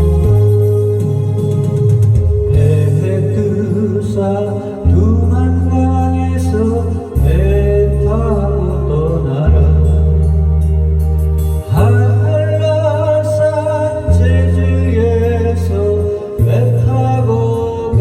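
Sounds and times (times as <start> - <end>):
held bass notes: 0.0 - 18.0.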